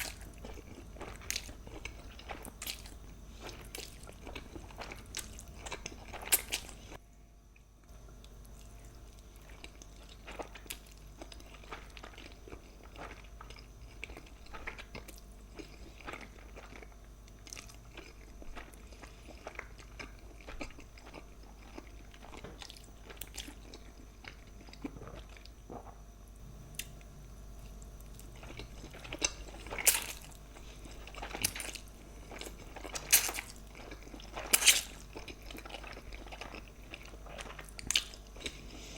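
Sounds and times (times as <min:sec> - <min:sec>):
person chewing food: 0:00.0 - 0:07.0, 0:07.6 - 0:26.1, 0:26.7 - 0:38.9.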